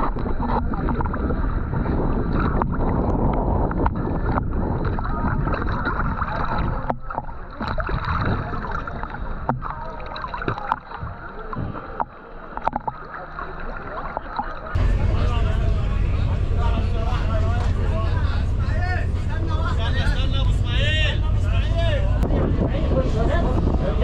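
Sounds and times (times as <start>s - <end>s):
splashing and bubbles: 0.0s - 19.4s
water sloshing and gurgling: 0.0s - 24.0s.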